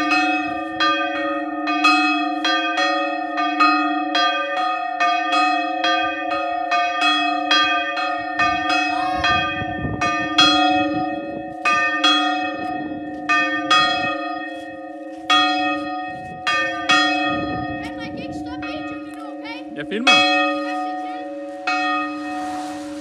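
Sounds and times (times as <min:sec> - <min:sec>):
church bell ringing: 0:00.0 - 0:23.0.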